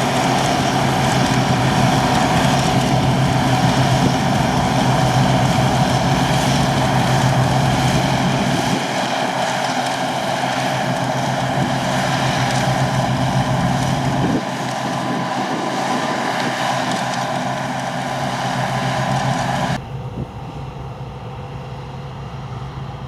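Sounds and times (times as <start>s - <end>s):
diesel farm machinery running: 0.0s - 23.0s.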